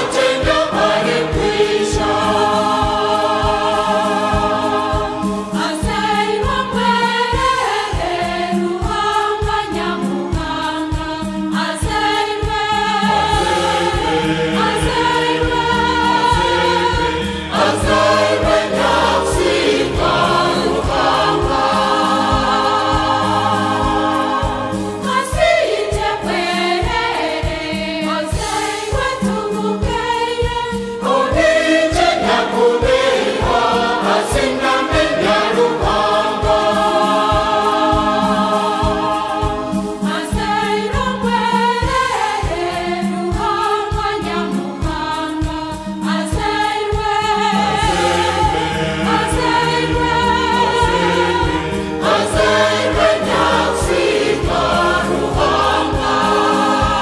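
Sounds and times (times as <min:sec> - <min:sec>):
choir singing a hymn: 0:00.0 - 0:57.0
instrumental backing with beat: 0:00.0 - 0:57.0.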